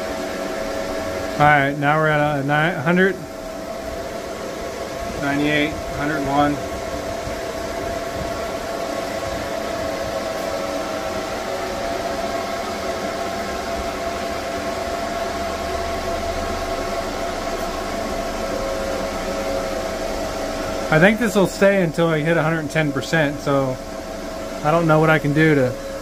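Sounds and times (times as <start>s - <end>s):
cooling fans whirring: 0.0s - 26.0s.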